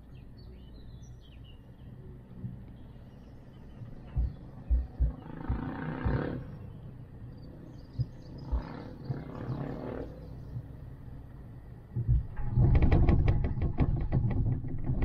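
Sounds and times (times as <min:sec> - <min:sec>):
wind buffeting microphone: 0:02.4 - 0:15.0.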